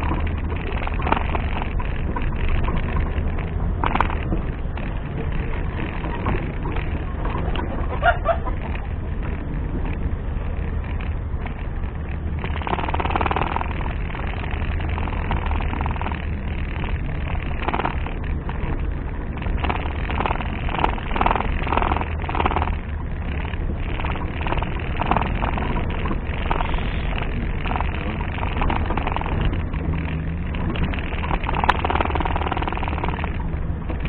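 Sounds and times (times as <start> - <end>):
off-road engine droning: 0.0 - 34.0.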